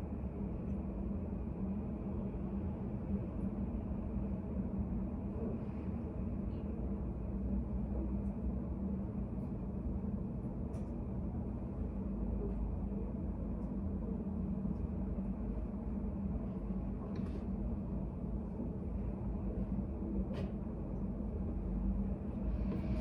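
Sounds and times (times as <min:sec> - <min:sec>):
low room hum and rumble: 0:00.0 - 0:23.0.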